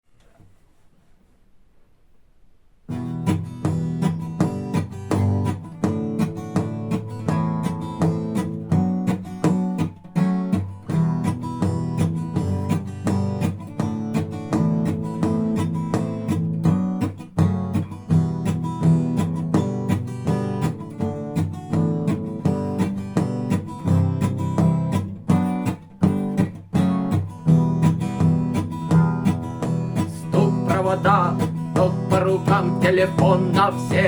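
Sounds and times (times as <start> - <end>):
acoustic guitar strumming: 2.9 - 34.0
knocks on guitar body: 3.3 - 34.0.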